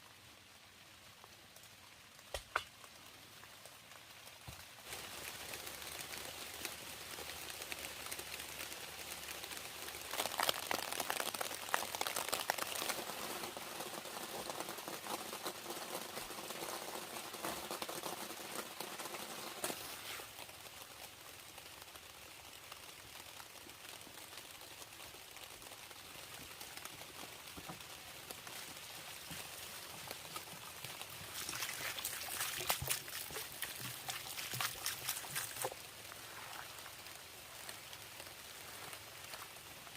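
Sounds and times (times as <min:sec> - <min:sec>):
rain pattering and dripping: 0:00.0 - 0:39.9.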